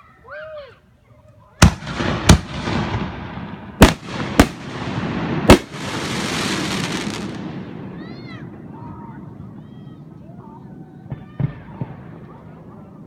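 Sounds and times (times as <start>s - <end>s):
fireworks bursting: 1.6s - 12.7s.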